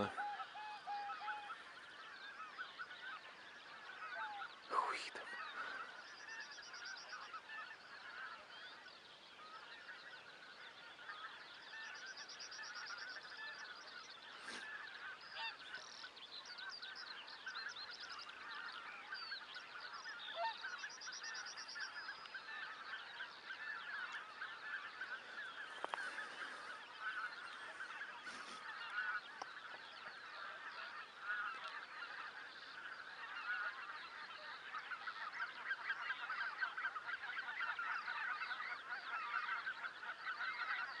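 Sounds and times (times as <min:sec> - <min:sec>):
geese and swans honking: 0:00.0 - 0:41.0.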